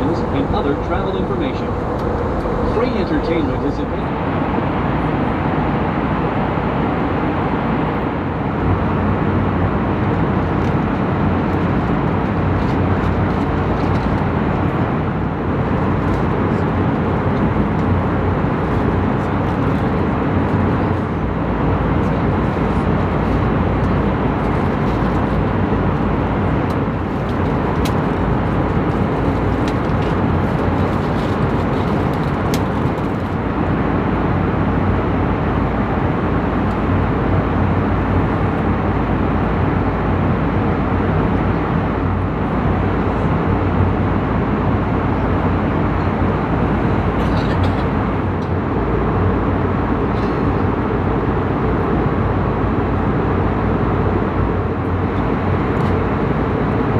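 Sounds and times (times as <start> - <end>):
airplane cabin noise: 0.0 - 56.9.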